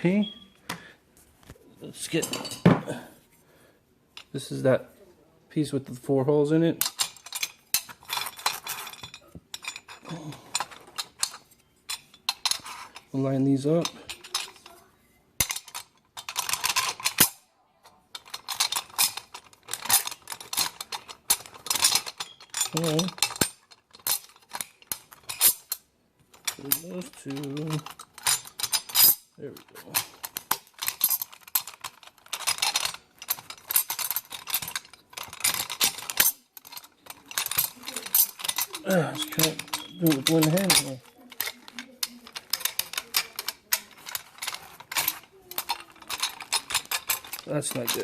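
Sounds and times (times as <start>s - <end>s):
metal bolts clinking and rattling: 2.0s - 3.1s, 6.8s - 48.0s.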